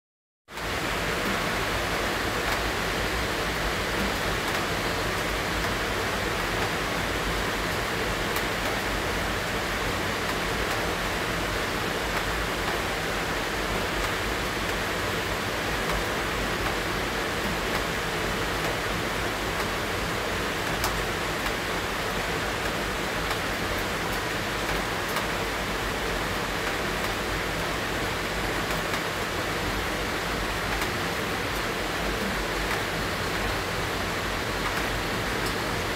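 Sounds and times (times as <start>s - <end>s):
steady rain hiss: 0.5s - 35.9s.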